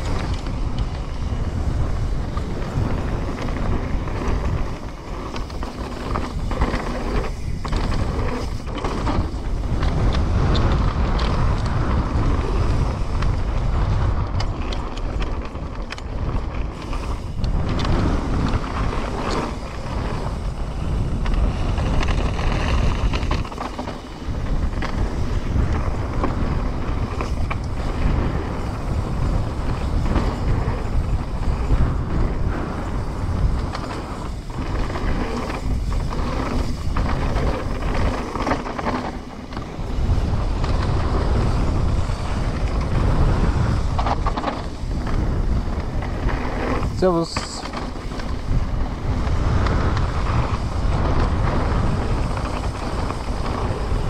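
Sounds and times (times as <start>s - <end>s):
bike chain and frame clattering: 0.0s - 54.0s
tyres rumbling over dirt and rocks: 0.0s - 54.0s
wind buffeting microphone: 0.0s - 54.0s.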